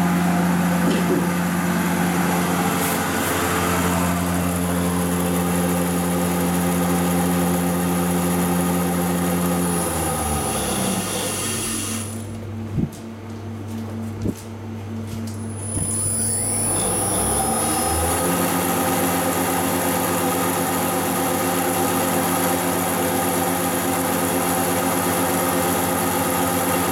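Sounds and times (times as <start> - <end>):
spindle motor electrical whine: 0.0 - 26.9.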